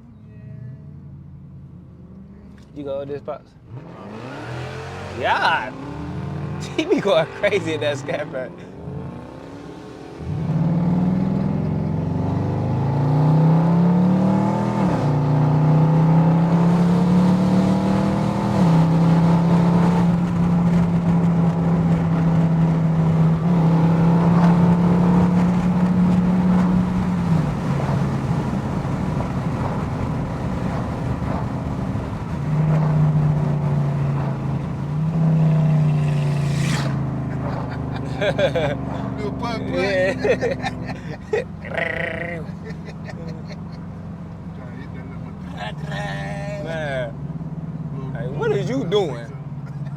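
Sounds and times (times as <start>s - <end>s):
car engine accelerating: 3.6s - 49.9s.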